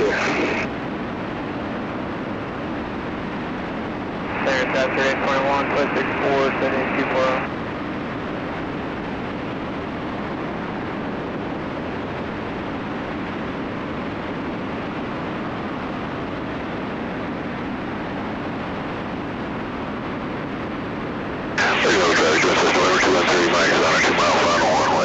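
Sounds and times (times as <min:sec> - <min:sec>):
aircraft engines and propellers drone: 0:00.0 - 0:25.0.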